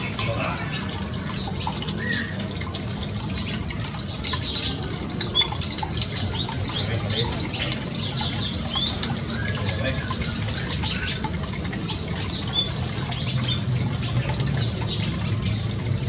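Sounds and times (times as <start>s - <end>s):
songbirds chirping: 0.0s - 16.0s
stream trickling: 0.0s - 16.0s.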